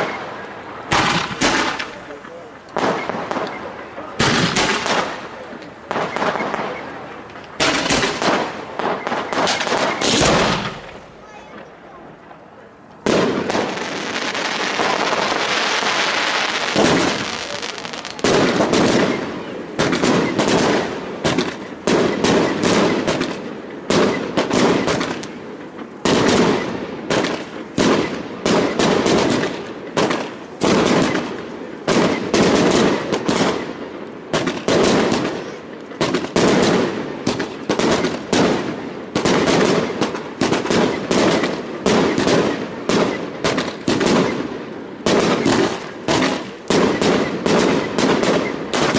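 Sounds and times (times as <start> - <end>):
crackling hiss: 0.0 - 48.9
fireworks bangs and crackles: 0.0 - 48.9.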